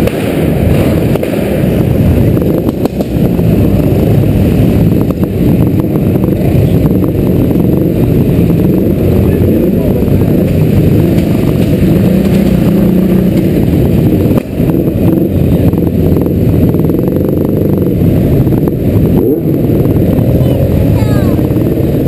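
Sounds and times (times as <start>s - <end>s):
motorcycle engine running: 0.0s - 22.0s
other motorcycles: 0.0s - 22.0s.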